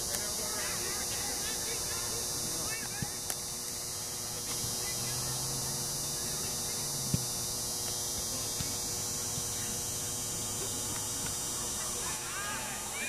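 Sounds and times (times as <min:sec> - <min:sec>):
outdoor hum and hiss: 0:00.0 - 0:13.0.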